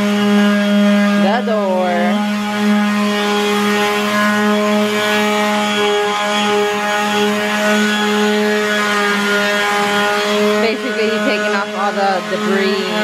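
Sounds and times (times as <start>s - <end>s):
electric power sander: 0.0s - 13.0s.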